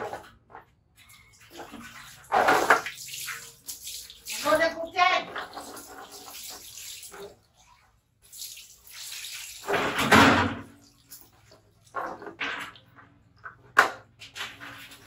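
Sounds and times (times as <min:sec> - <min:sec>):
water splashing on tiled floor: 0:00.8 - 0:15.0.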